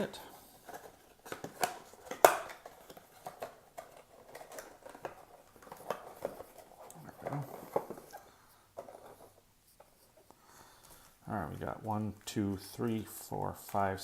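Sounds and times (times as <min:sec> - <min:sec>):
cardboard box and foil packs handled: 0:00.0 - 0:14.0.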